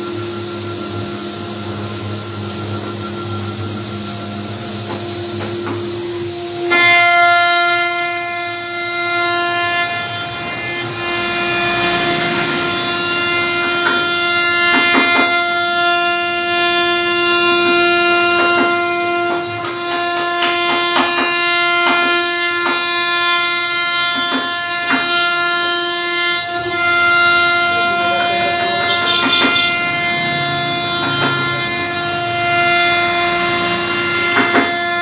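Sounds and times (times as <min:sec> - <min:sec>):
router spindle whining: 0:00.0 - 0:35.0.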